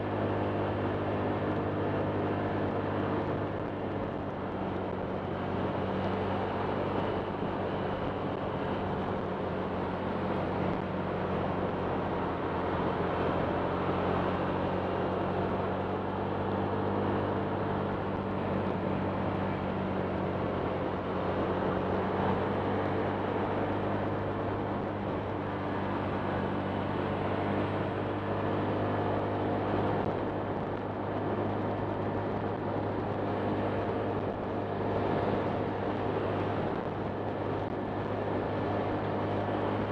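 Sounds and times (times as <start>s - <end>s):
steady rush of noise: 0.0s - 39.9s.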